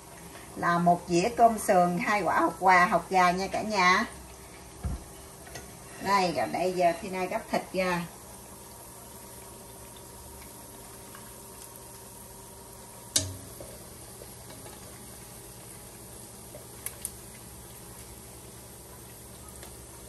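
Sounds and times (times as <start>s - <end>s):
hot oil sizzling in a pot: 0.0s - 20.0s.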